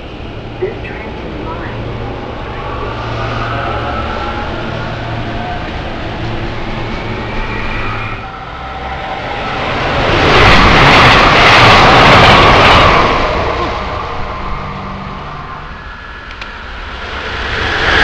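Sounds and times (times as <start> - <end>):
train rushing through station: 0.0 - 18.0.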